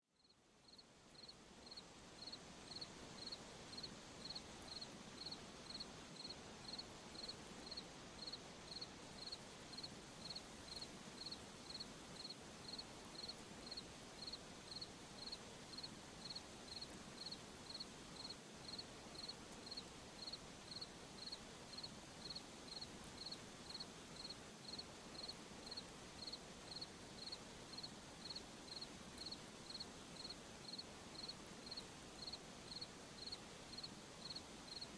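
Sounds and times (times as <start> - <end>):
faint hiss: 0.0 - 34.9
cricket chirping: 0.2 - 34.9.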